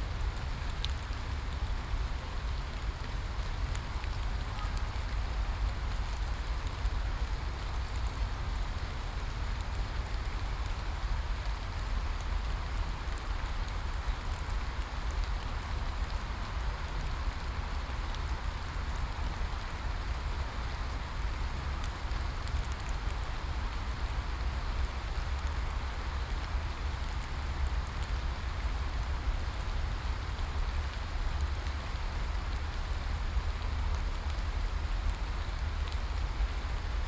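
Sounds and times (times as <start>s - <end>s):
steady rain: 0.0s - 37.0s
raindrop ticks: 0.3s - 37.0s.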